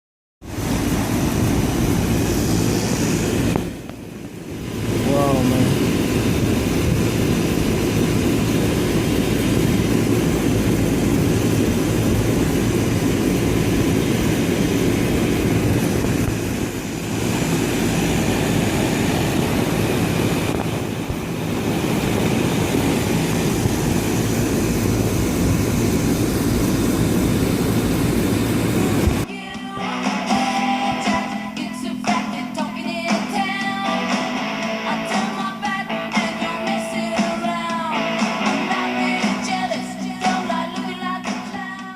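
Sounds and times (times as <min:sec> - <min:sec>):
air conditioner unit humming: 0:00.5 - 0:41.9.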